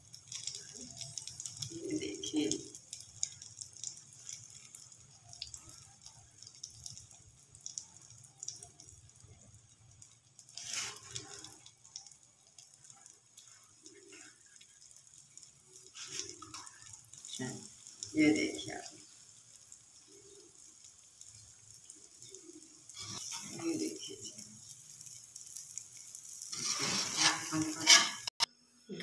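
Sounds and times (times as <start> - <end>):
omelette sizzling in oil: 0.0 - 28.9.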